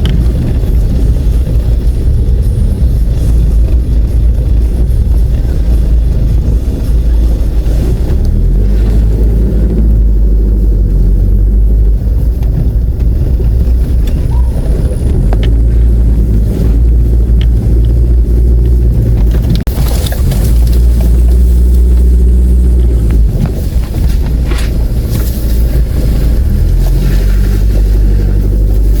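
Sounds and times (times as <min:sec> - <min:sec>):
vehicle low rumble: 0:00.0 - 0:29.0.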